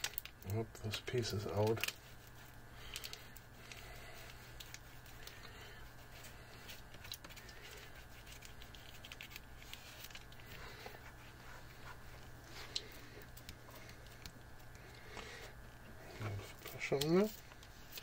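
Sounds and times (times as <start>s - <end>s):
faint steady low hum: 0.0s - 18.0s
fingertips rubbing plastic film: 0.0s - 18.0s.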